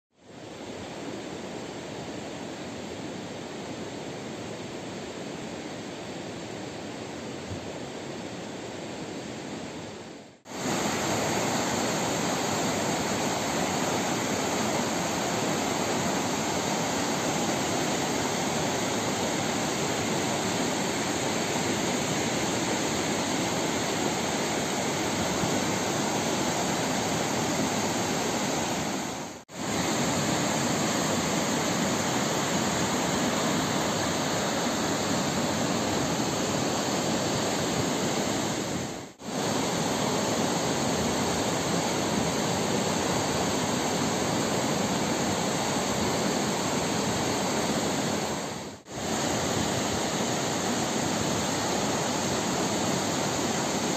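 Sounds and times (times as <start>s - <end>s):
fast-flowing river rushing: 10.5s - 53.9s.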